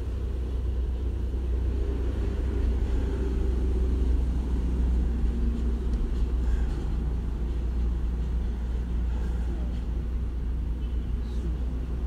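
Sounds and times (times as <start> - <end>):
faint hum: 0.0 - 12.0
steady low rumble: 0.0 - 12.0.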